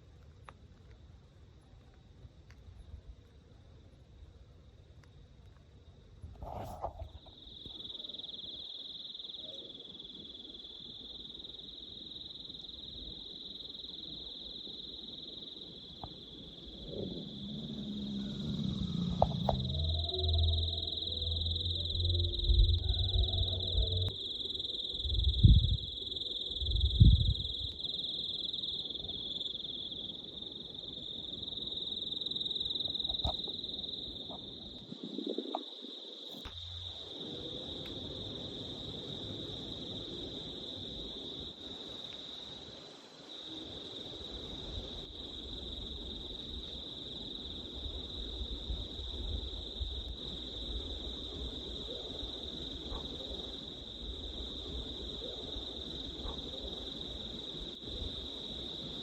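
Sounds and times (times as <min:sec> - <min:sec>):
high-pitched insect trill: 0:06.5 - 0:59.0.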